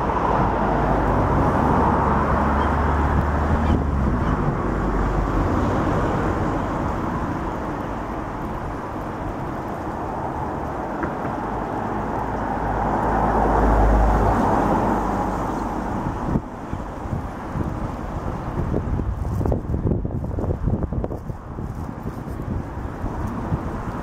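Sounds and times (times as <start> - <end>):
steady outdoor hiss: 0.0 - 24.0
wind gusting on microphone: 0.0 - 24.0.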